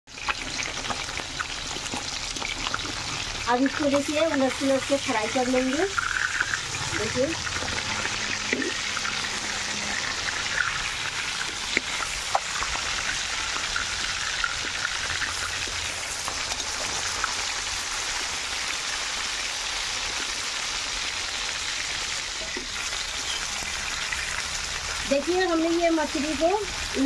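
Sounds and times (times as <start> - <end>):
fish sizzling in oil: 0.1 - 27.0.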